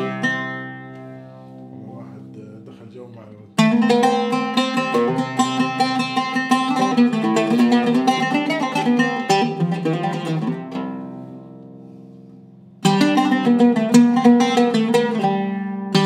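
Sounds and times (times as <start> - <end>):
oud plucked notes: 0.0 - 16.0.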